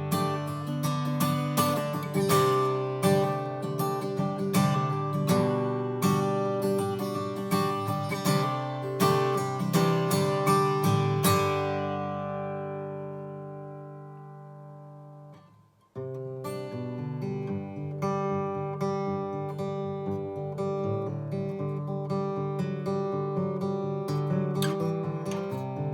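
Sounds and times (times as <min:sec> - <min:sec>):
acoustic guitar strumming chords: 0:00.0 - 0:25.9.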